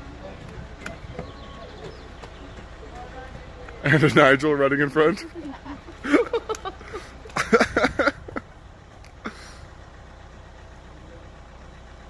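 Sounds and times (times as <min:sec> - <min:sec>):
winch engine humming: 0:00.0 - 0:12.0.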